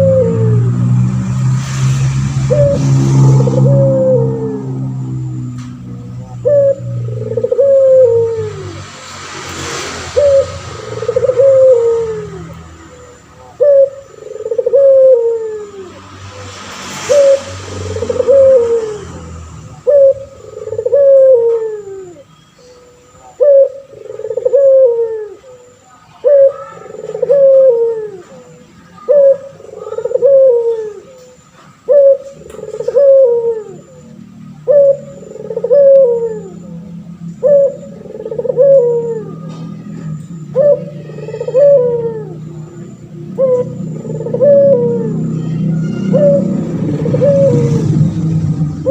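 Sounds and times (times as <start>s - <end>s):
dove cooing: 0.0s - 0.9s, 2.4s - 8.8s, 10.1s - 16.4s, 17.1s - 48.9s.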